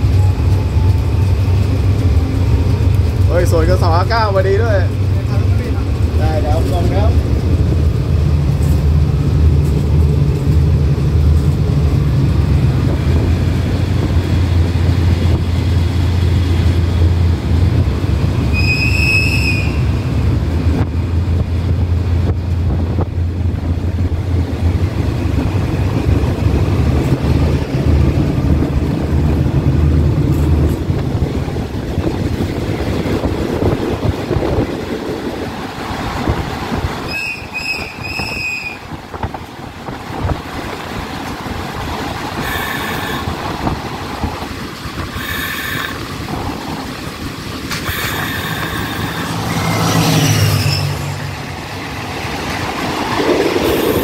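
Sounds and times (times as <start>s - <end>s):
diesel locomotive engine droning: 0.0s - 54.0s.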